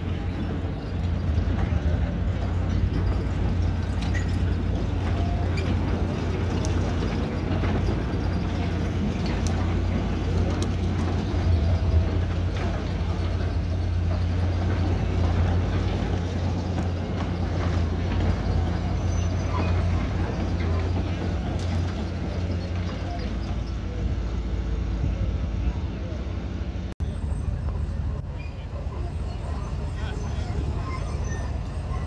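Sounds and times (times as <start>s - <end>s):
heavy machinery diesel engines humming: 0.0s - 32.0s.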